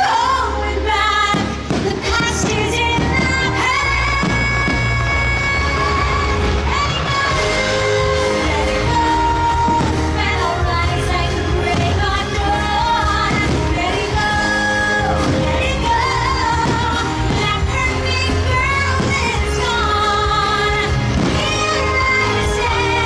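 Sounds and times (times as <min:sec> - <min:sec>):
pop music with singing over loudspeakers: 0:00.0 - 0:23.0.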